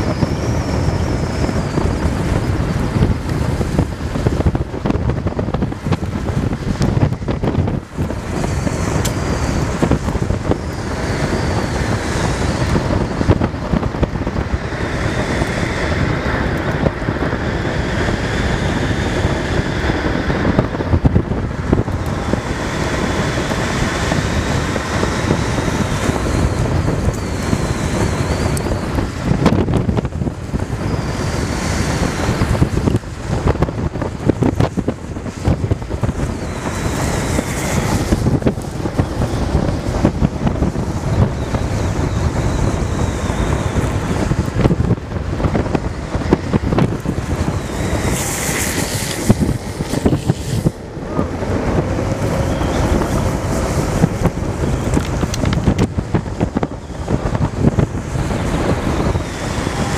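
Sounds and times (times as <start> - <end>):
wheels rumbling on asphalt: 0.0 - 59.9
wind rushing over microphone: 0.0 - 59.9.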